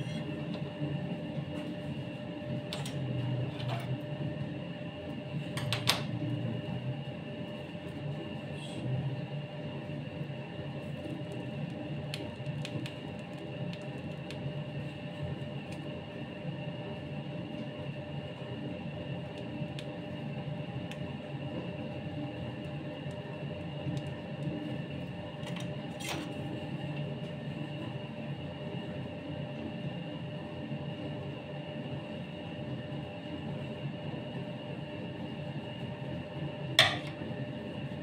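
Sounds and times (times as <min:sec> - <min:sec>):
machine drone with whining tones: 0:00.0 - 0:38.0.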